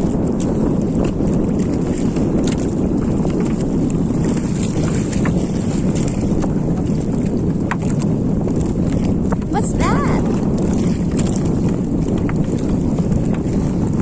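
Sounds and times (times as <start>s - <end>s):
water washing against boat: 0.0s - 14.0s
wind rumble on microphone: 0.0s - 14.0s.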